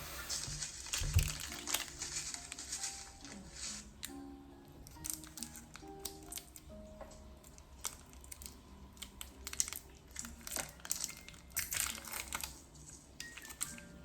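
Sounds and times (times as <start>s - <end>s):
crinkly material crinkling: 0.0s - 14.0s.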